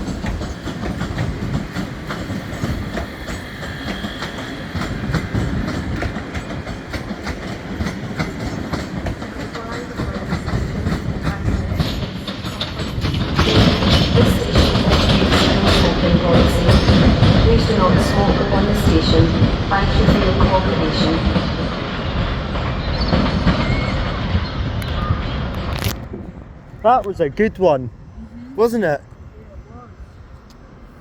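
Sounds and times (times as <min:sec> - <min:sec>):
train wheels clicking over rail joints: 0:00.0 - 0:27.4
train rumble: 0:00.0 - 0:31.0.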